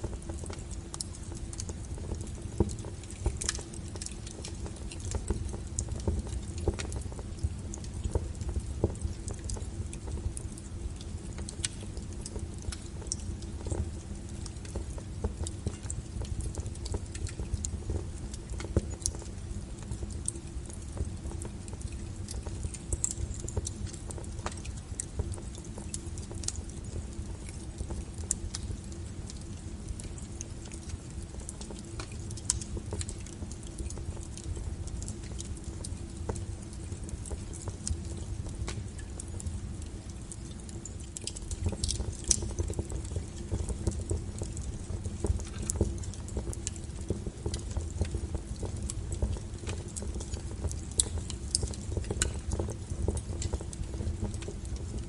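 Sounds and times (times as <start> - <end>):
fire rumbling: 0.0 - 55.0
firewood crackling and popping: 0.0 - 55.0.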